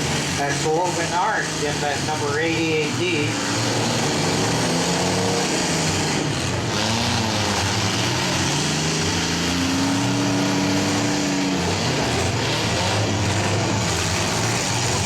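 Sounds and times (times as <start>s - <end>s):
engines running and revving: 0.0s - 15.0s.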